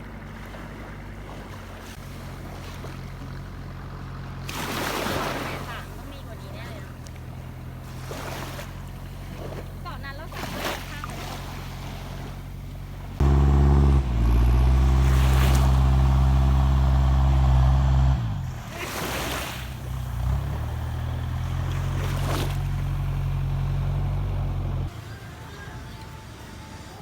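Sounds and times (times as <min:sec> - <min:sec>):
low engine running: 0:00.0 - 0:10.4, 0:11.0 - 0:27.0.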